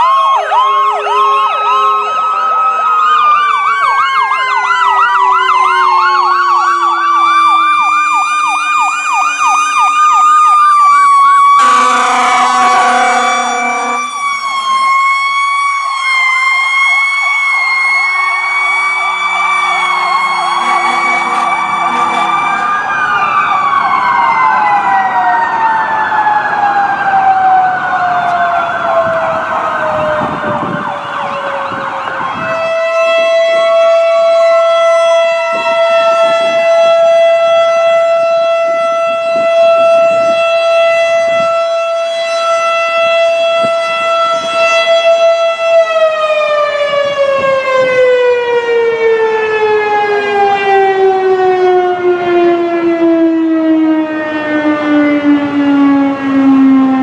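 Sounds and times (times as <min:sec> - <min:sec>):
fire truck sirens wailing: 0:00.0 - 0:57.0.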